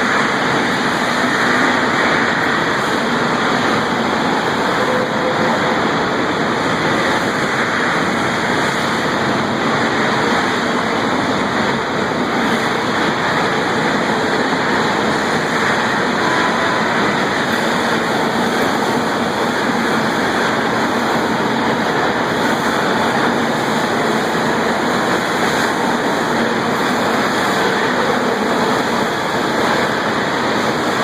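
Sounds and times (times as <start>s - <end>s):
furnace roar: 0.0s - 31.0s.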